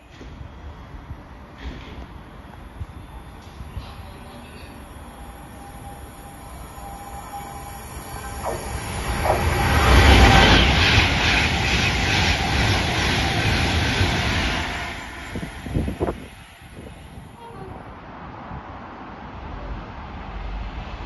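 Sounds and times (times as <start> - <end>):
train passing wheel and rail noise: 0.0 - 21.0.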